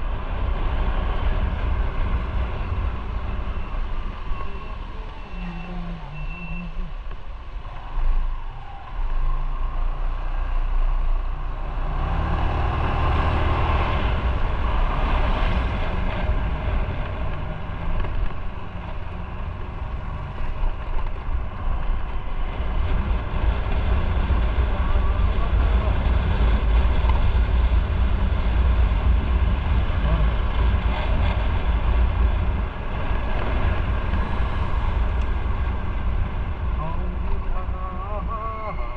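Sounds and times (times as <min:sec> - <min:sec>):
motorcycle engine and road noise: 0:00.0 - 0:38.9.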